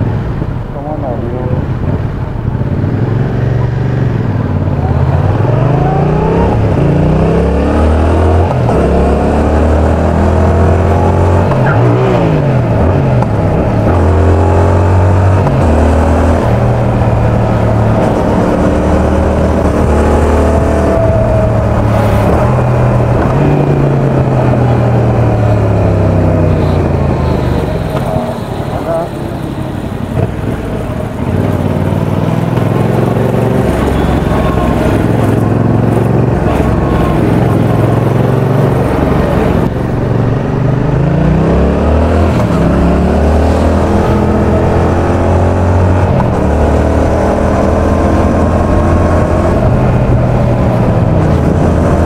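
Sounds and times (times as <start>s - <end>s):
motorcycle engine revving: 1.9s - 52.0s.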